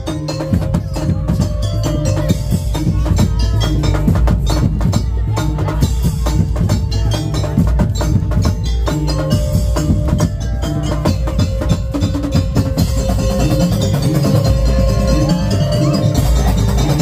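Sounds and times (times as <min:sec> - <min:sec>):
drums: 0:00.0 - 0:17.0
ringing pitched notes: 0:00.0 - 0:17.0.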